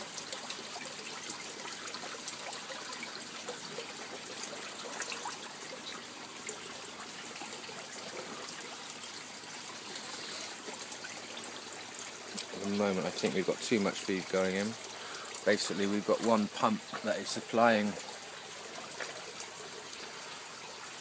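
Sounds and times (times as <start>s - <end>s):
water drips: 0.0s - 21.0s
water trickling and splashing: 0.0s - 21.0s.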